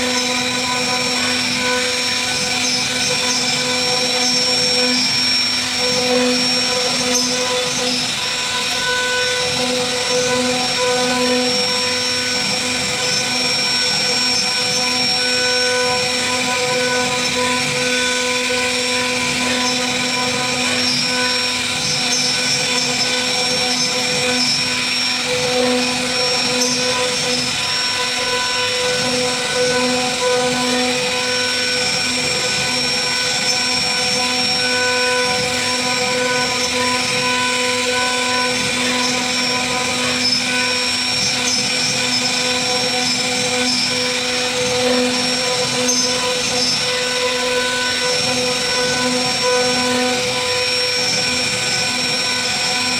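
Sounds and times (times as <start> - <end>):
router spindle high whine: 0.0 - 52.9.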